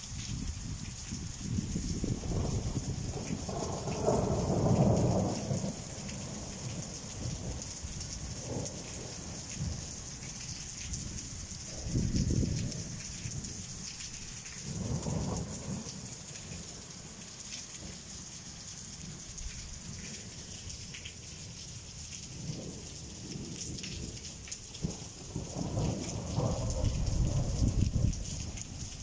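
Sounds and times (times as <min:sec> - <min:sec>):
rain on a tile roof: 0:00.0 - 0:29.0.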